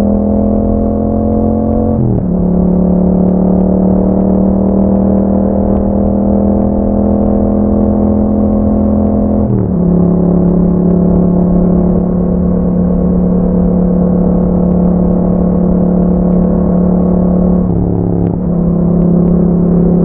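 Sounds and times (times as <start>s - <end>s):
motorcycle engine droning: 0.0s - 20.0s.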